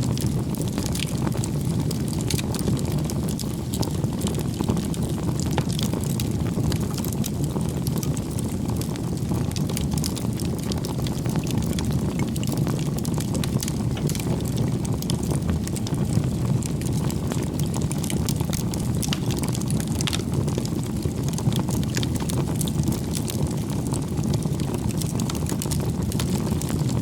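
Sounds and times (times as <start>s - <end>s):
campfire burning and crackling: 0.0s - 27.0s.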